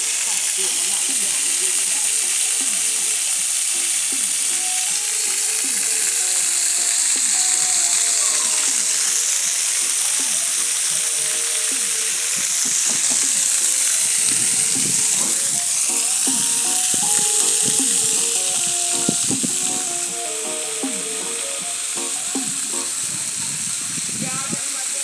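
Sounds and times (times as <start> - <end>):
music playing: 0.0 - 23.4
water pouring over waterfall: 0.0 - 25.0.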